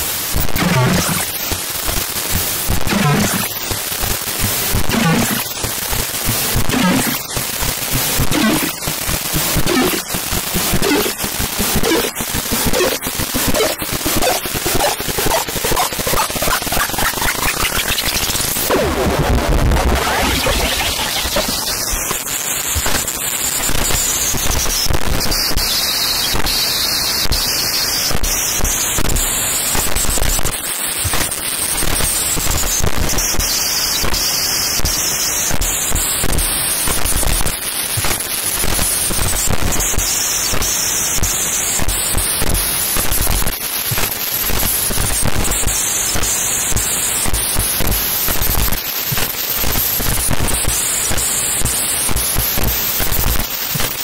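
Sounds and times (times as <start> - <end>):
harsh crackling static: 0.0 - 54.0.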